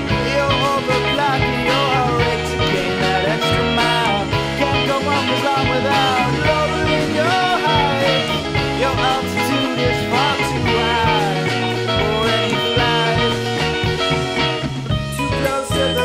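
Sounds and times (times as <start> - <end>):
bass line: 0.0 - 16.0
drums: 0.0 - 16.0
lead line of bending notes: 0.0 - 16.0.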